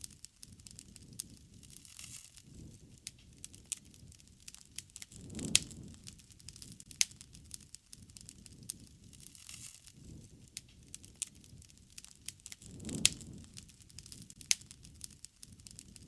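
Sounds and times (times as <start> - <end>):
campfire crackling and popping: 0.0 - 16.0
low rush of flame: 0.0 - 16.0.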